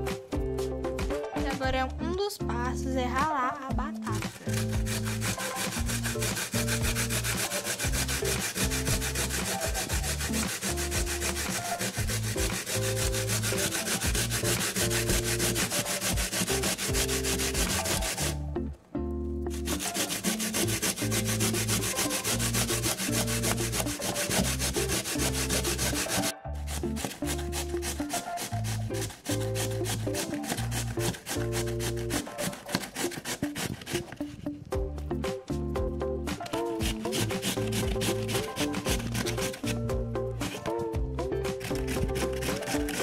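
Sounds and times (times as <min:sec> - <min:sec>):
potato grating on plastic grater: 0:04.0 - 0:18.4, 0:19.5 - 0:34.4, 0:36.4 - 0:40.7, 0:41.4 - 0:43.0.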